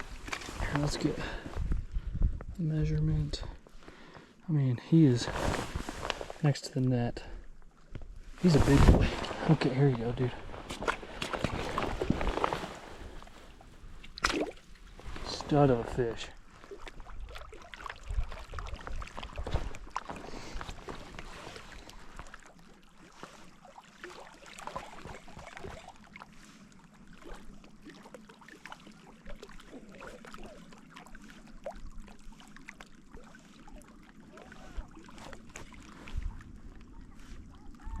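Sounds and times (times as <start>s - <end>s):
water lapping and sloshing: 0.0s - 38.0s.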